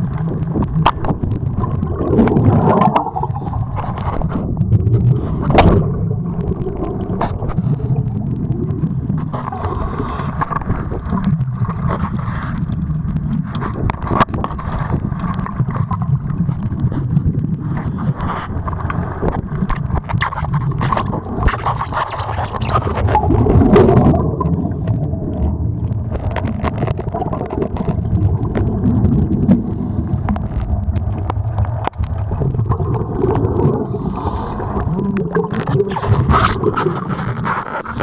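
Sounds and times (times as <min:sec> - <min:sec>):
underwater rumble: 0:00.0 - 0:38.0
clicks and scrapes: 0:00.1 - 0:34.2, 0:34.8 - 0:38.0.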